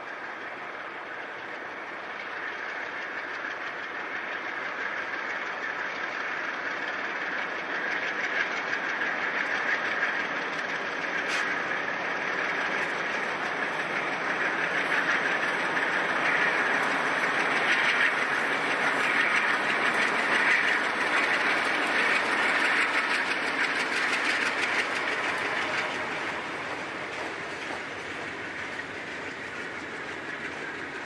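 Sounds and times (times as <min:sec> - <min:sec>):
diesel locomotive engine: 0:00.0 - 0:31.0
train wheels on rail: 0:00.0 - 0:31.0.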